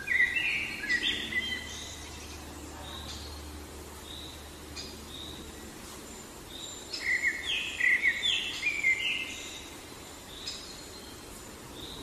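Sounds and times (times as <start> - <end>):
faint distant bird calls: 0.0 - 12.0
songbird singing repeated notes: 0.0 - 12.0
steady outdoor hiss: 0.0 - 12.0.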